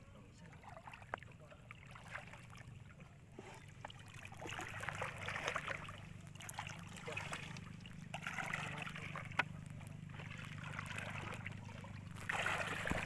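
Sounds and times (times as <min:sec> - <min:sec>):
shallow water sloshing: 0:00.0 - 0:13.0
small splashes: 0:00.4 - 0:13.0.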